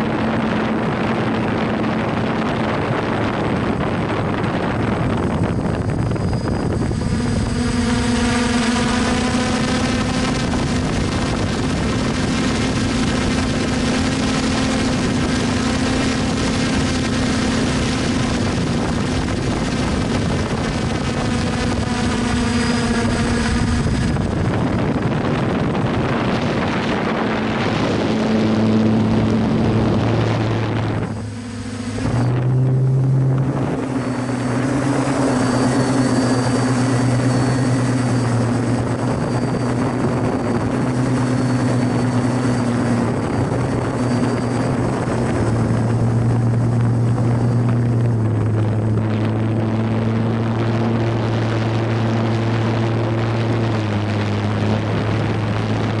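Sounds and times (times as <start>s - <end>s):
drone propellers whirring: 0.0s - 56.0s
wind rush: 0.0s - 56.0s.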